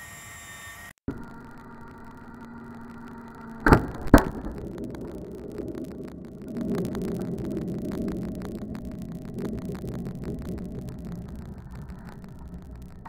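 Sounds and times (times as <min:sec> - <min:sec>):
low rumble: 0:01.1 - 0:13.0.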